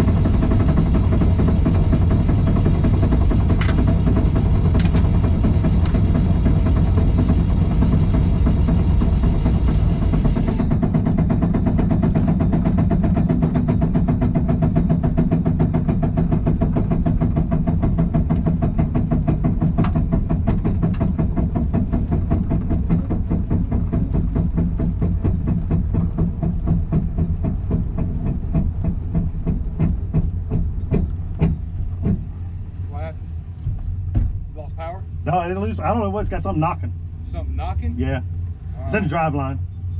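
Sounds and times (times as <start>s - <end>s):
car engine choppy idle: 0.0s - 39.9s.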